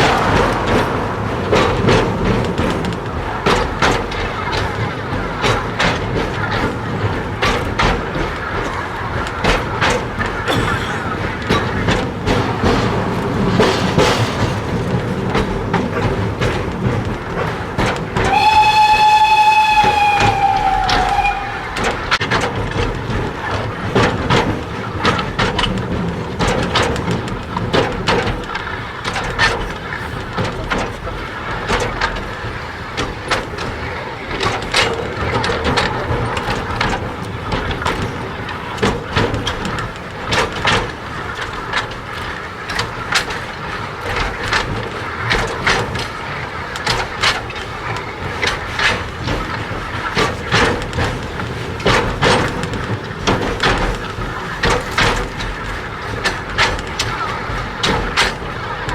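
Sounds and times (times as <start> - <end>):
clanks from wheels and couplings: 0.0 - 58.9
train wagons rumbling on track: 0.0 - 58.9.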